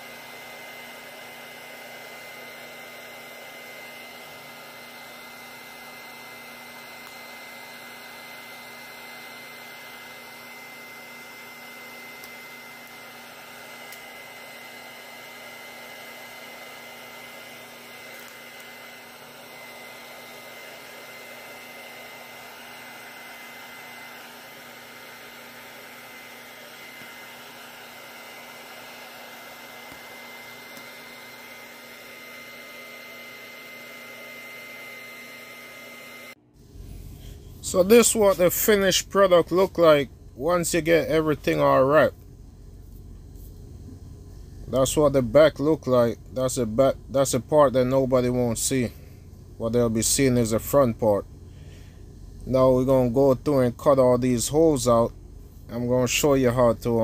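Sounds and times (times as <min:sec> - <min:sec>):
electric blower motor whirring: 0:00.0 - 0:57.0.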